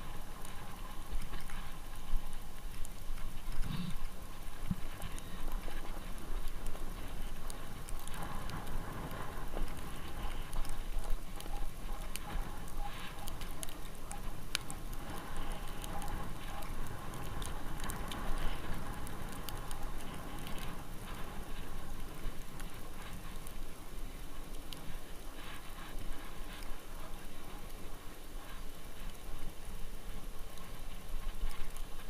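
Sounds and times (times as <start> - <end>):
bicycle tyres crunching snow: 0.0 - 32.0.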